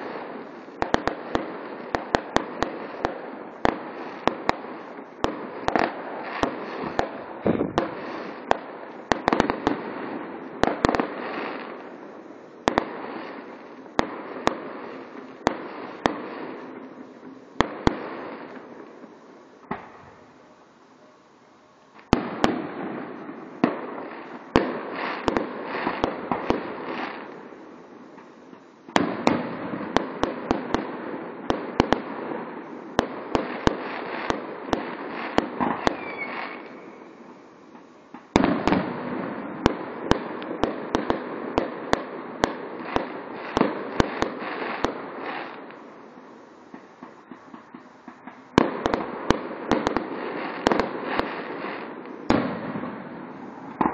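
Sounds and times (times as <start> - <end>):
fireworks crackling pops: 0.0 - 53.9.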